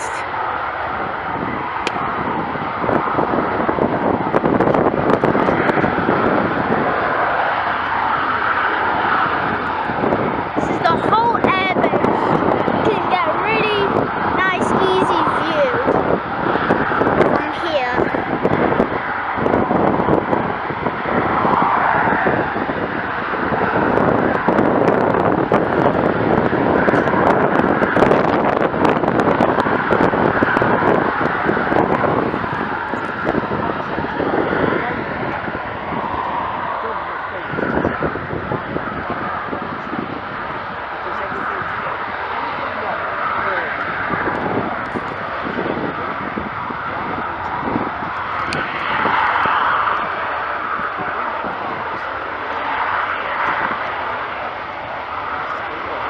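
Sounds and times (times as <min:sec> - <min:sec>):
jet engines running: 0:00.0 - 0:56.0
wind buffeting microphone: 0:00.0 - 0:56.0.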